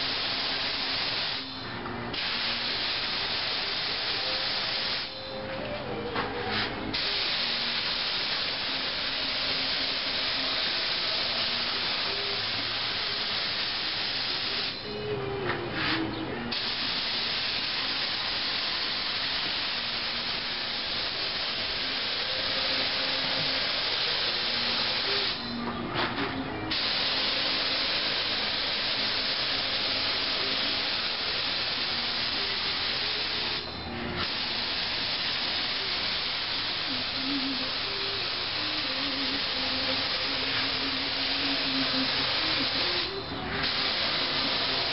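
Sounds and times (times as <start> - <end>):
paint spray gun hissing: 0.0 - 5.4, 6.5 - 15.0, 15.8 - 25.6, 26.7 - 44.9.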